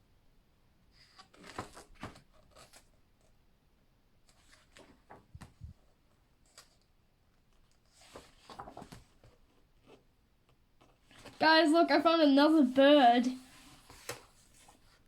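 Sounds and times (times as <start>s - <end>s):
book pages rustling: 1.0s - 3.4s, 4.2s - 11.5s, 12.5s - 15.0s.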